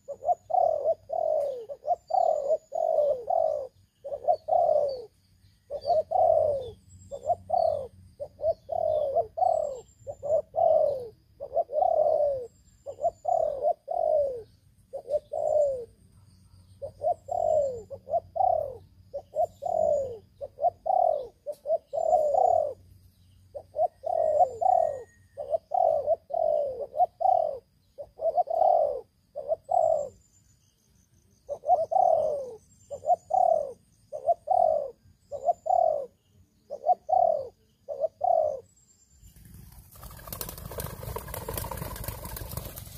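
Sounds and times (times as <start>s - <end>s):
doves cooing: 0.0s - 16.0s, 16.8s - 22.9s, 23.5s - 30.2s, 31.5s - 38.7s, 39.4s - 42.9s
small birds chirping: 0.0s - 42.9s.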